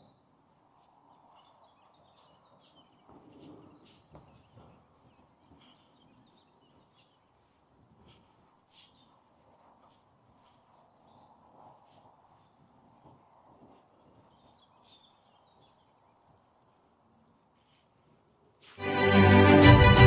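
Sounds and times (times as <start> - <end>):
faint birdsong: 0.0 - 18.4.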